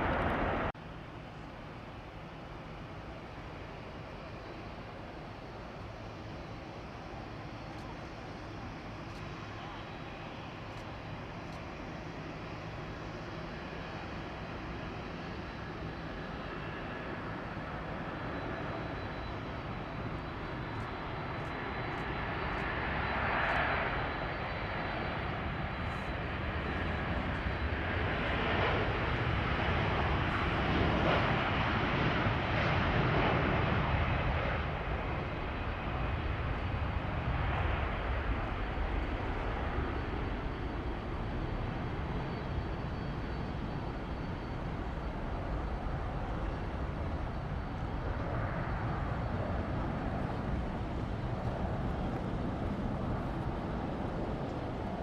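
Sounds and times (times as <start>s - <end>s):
jet airliner engines rumbling: 0.0s - 55.0s.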